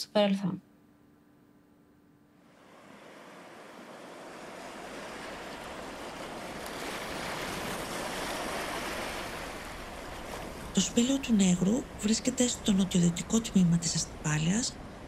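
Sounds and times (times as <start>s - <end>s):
wind: 0.2s - 15.0s
sea waves and surf: 2.2s - 15.0s.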